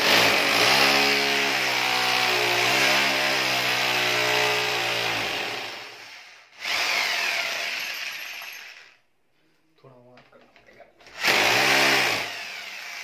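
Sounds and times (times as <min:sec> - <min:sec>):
hammer drill whining: 0:00.0 - 0:09.0, 0:11.0 - 0:13.0.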